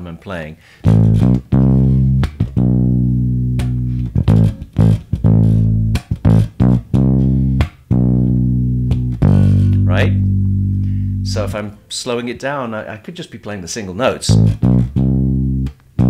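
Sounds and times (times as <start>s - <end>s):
electric bass guitar fingerstyle: 0.7s - 12.2s, 14.1s - 16.0s.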